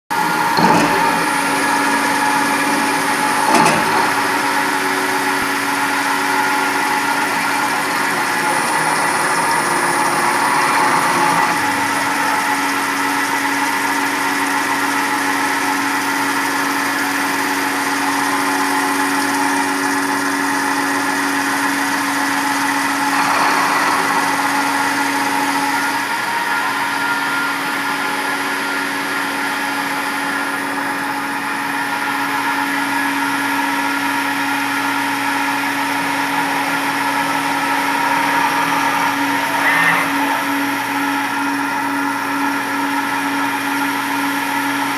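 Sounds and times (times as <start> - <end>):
milling machine whine and hum: 0.1 - 44.9.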